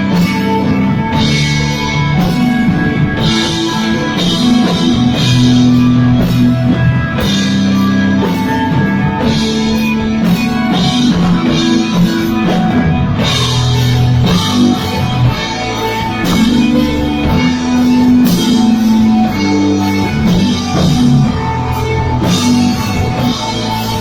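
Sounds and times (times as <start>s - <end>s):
instrumental rock band: 0.0s - 24.0s.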